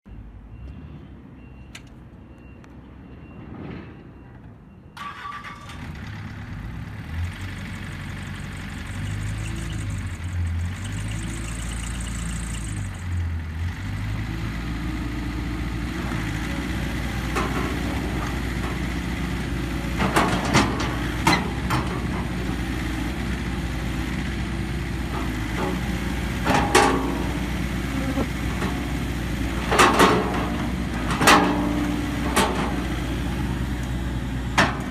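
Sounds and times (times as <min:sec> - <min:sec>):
diesel engine rumbling: 0:00.1 - 0:34.9.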